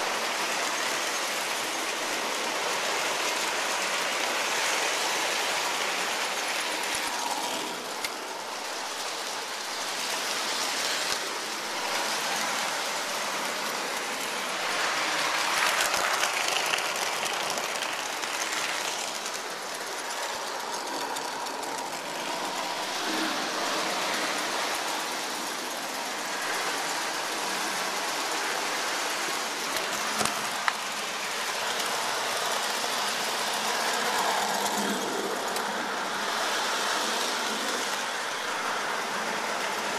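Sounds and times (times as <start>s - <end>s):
toy train rolling and whirring: 0.0s - 39.9s
clicks from rails: 0.2s - 35.9s.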